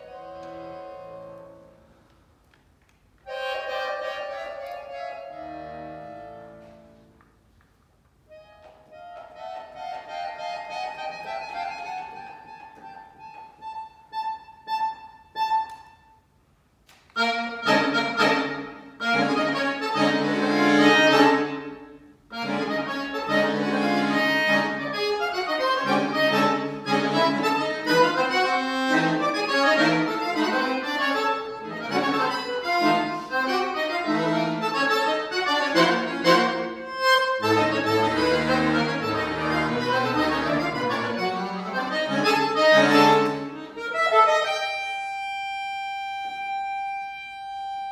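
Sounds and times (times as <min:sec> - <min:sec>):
solo accordion playing: 0:00.0 - 0:02.0, 0:03.2 - 0:07.2, 0:08.2 - 0:16.4, 0:17.1 - 0:47.9.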